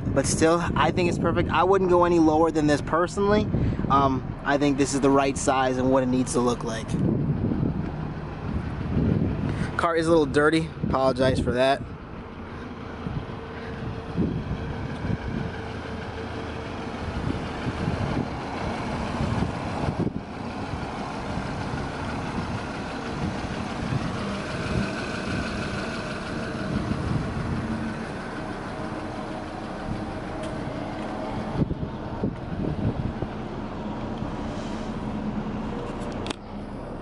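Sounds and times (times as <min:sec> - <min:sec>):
vehicle engine running: 0:00.0 - 0:37.0
wind buffeting the microphone: 0:00.0 - 0:37.0.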